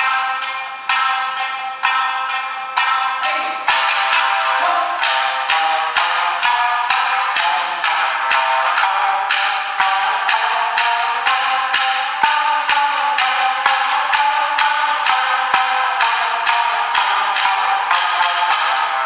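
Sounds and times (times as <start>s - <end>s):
shamisen duet: 0.0s - 19.0s.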